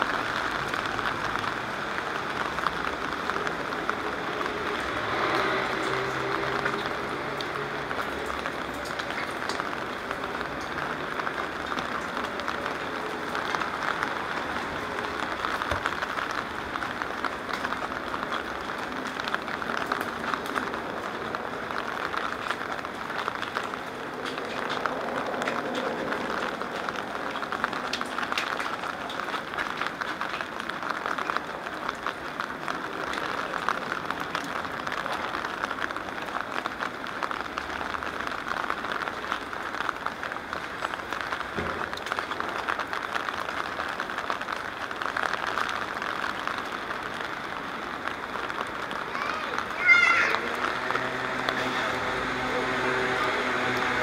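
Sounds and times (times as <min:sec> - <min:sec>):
rain hissing on wet pavement: 0:00.0 - 0:54.0
raindrops ticking on rain cover: 0:00.0 - 0:54.0.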